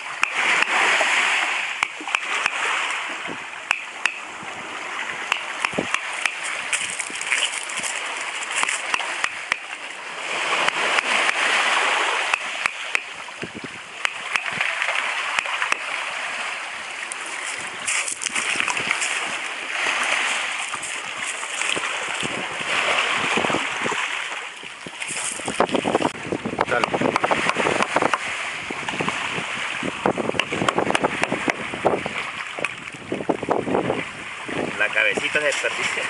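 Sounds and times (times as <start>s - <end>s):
waves washing on pebble shore: 0.0s - 36.0s.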